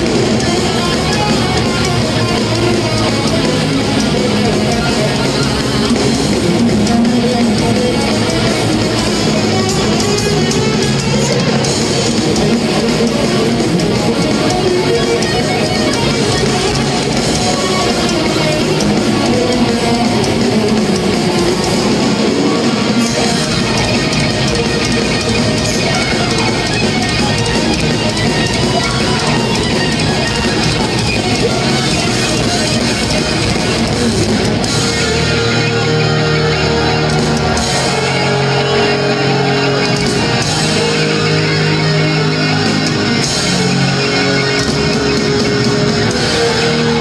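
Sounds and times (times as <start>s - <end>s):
bass guitar: 0.0s - 47.0s
distorted electric guitars: 0.0s - 47.0s
drums: 0.0s - 47.0s.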